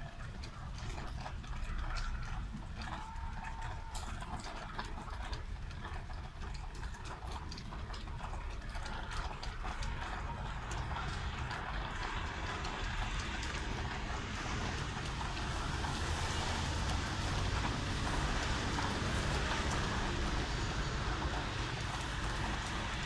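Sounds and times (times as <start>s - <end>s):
rain falling: 0.0s - 23.0s
sharp ticks of raindrops: 0.0s - 23.0s.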